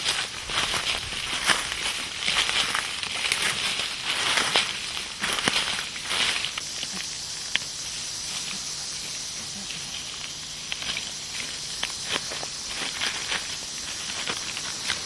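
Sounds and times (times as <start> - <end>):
dry vegetation rustling: 0.0 - 15.0
steady high hiss: 0.0 - 15.0.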